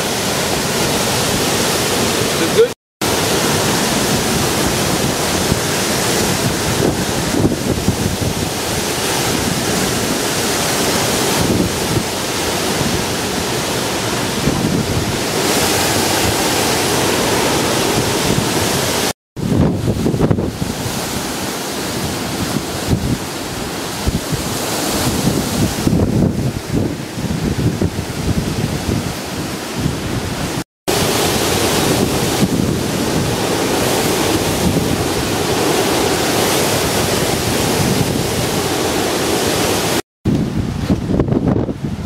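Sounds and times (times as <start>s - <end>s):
strong wind buffeting microphone: 0.0s - 42.0s.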